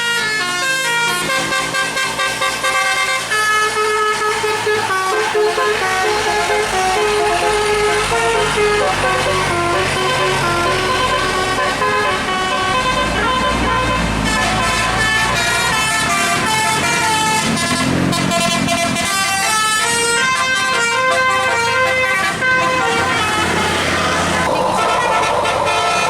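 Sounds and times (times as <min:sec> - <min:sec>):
bus engine rumbling: 0:00.0 - 0:26.0
musical air horn tune: 0:00.0 - 0:26.0.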